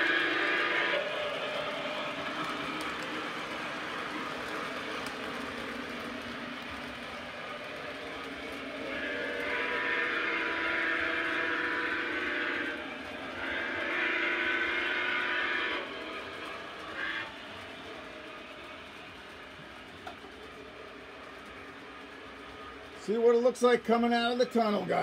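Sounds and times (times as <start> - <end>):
model steam locomotive sounds: 0.0 - 25.0.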